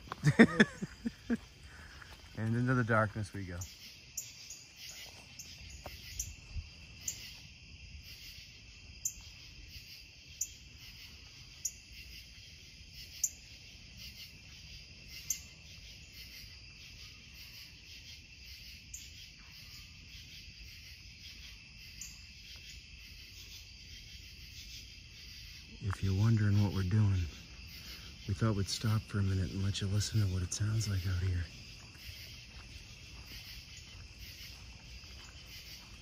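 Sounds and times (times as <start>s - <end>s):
crickets trilling: 0.0s - 36.0s.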